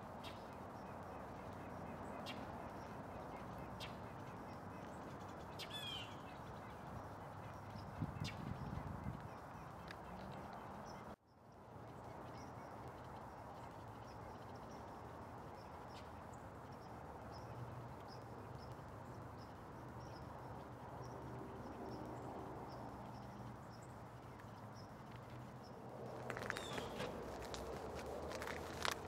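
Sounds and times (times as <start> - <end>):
small birds chirping faintly: 0.0 - 29.0.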